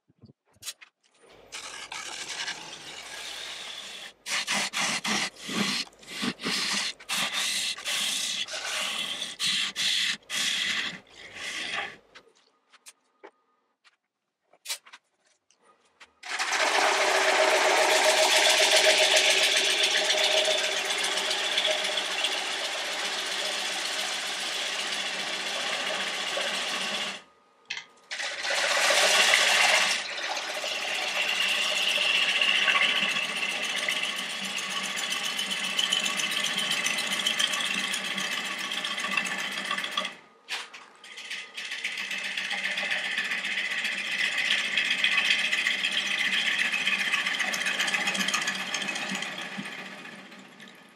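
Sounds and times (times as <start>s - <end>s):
bowl gouge cutting wood on a lathe: 1.4s - 12.1s, 16.2s - 27.3s, 28.1s - 40.2s, 40.9s - 50.9s.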